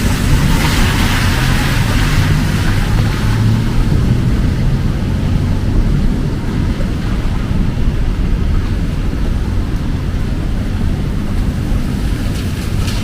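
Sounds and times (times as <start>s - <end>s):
rain hissing on wet road: 0.0s - 13.0s
vehicle engine rumbling: 0.0s - 13.0s.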